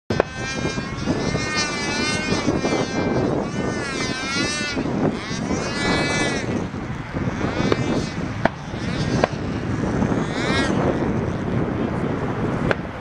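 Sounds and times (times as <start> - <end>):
pulse-jet engine buzzing: 0.1 - 13.0.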